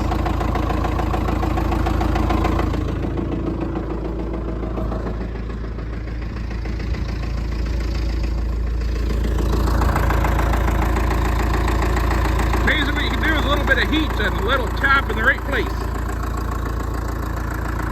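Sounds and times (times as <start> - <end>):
bulldozer engine idling: 0.0 - 17.9.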